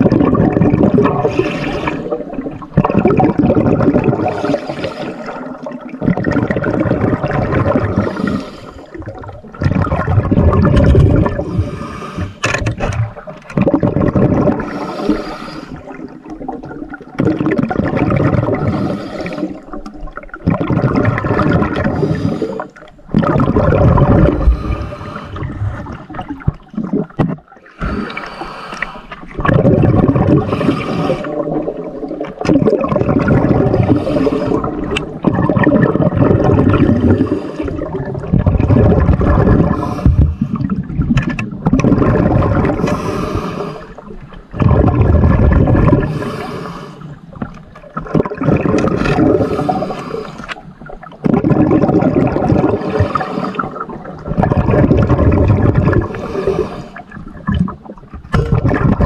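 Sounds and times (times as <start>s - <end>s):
muffled water gurgling and sloshing: 0.0s - 59.0s.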